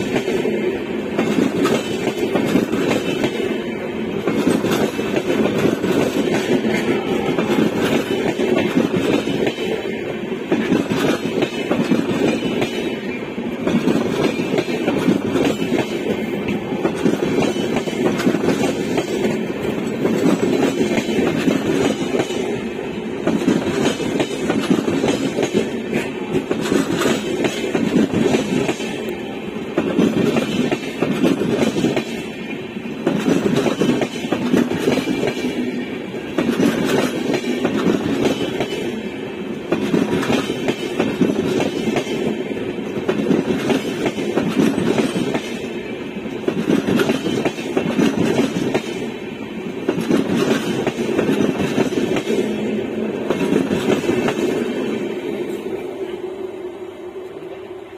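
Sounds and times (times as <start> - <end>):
train coaches rumbling past: 0.0 - 57.9.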